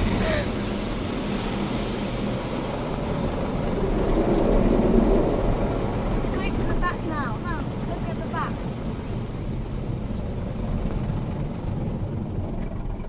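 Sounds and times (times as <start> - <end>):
car wash brushes and water rumbling: 0.0 - 13.0.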